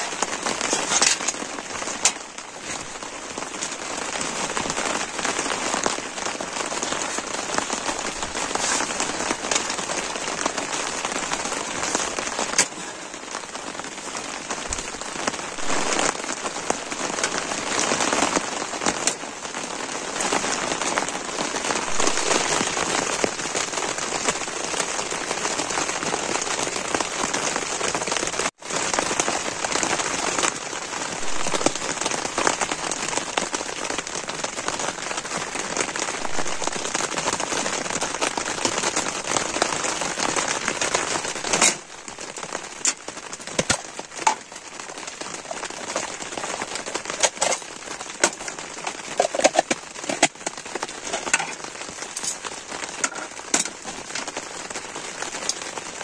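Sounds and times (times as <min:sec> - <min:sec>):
heavy rain on tent fabric: 0:00.0 - 0:56.0.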